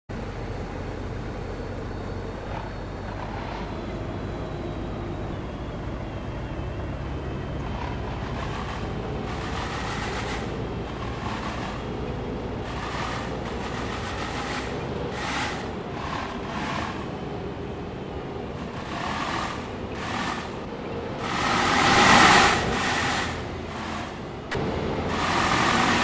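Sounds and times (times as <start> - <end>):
low rumble of traffic: 0.1 - 26.0
vehicles whooshing past: 0.2 - 26.0.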